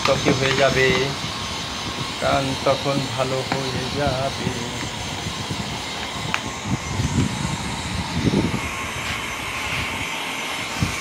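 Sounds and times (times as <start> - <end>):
bright hiss: 0.0 - 11.0
machine-like drone: 0.0 - 11.0.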